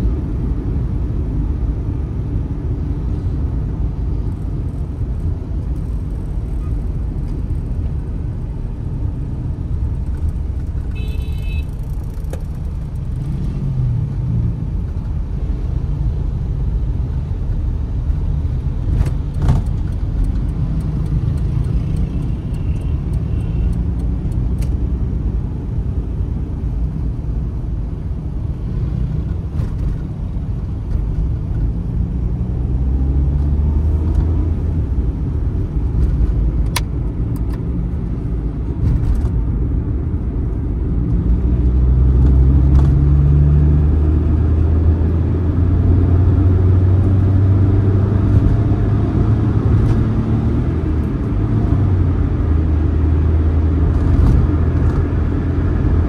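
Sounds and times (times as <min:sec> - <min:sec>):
car engine rumble from inside: 0:00.0 - 0:56.0.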